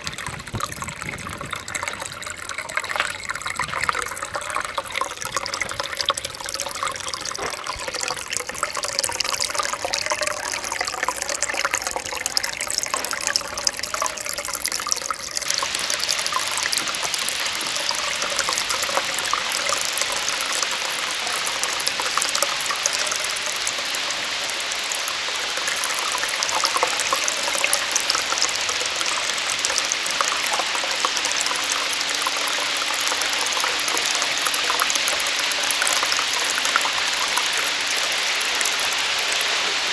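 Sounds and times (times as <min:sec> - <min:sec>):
water splashing from small waterfall: 0:00.0 - 0:39.9.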